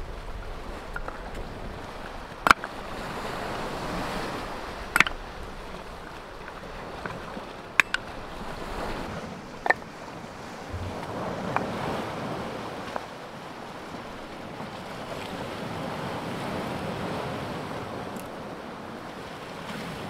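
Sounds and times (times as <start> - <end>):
sea surf washing: 0.0 - 20.0.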